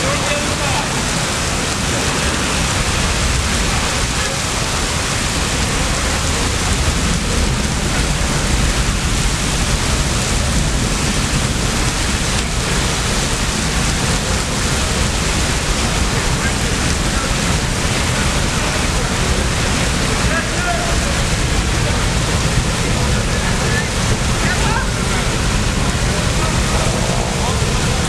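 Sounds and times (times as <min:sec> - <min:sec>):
fire burning: 0:00.0 - 0:28.0
fire hose water spray: 0:00.0 - 0:28.0.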